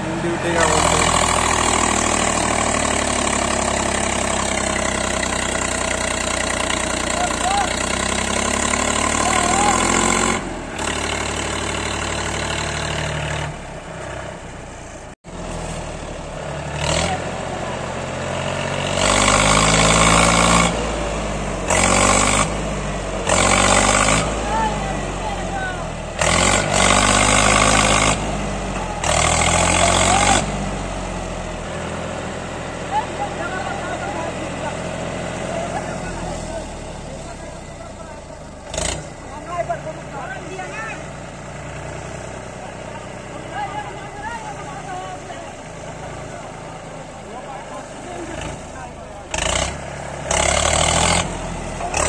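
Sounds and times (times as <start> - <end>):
tractor engine running hard: 0.0 - 52.0.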